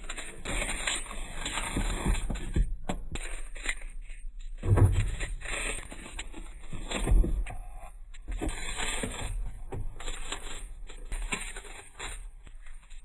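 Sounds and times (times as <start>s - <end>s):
cardboard cartons tapping and scraping: 0.0s - 13.0s.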